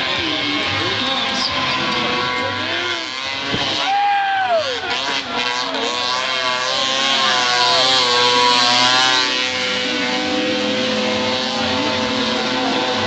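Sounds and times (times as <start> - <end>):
snowmobile engine high revs: 0.0 - 13.0.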